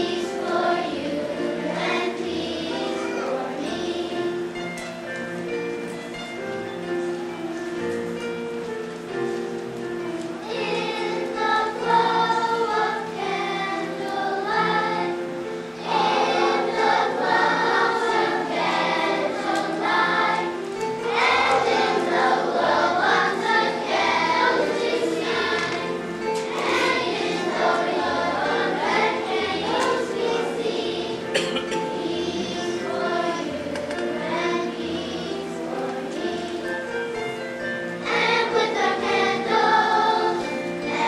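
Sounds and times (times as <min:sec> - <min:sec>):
children's choir singing: 0:00.0 - 0:41.0.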